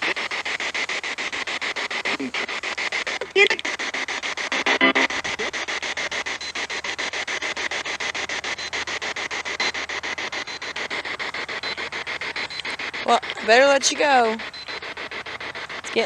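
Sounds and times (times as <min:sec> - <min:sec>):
pulsing radio static: 0:00.0 - 0:16.0.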